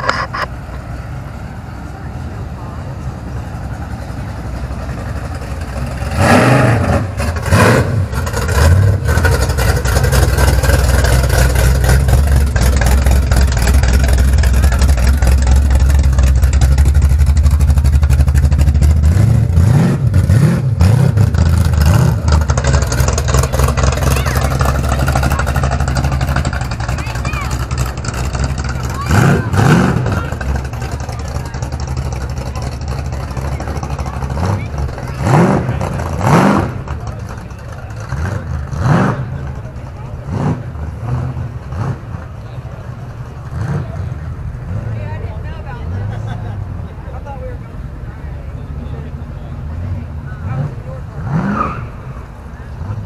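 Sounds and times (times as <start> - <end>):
pickup engine revving and rumbling: 0.0 - 53.0.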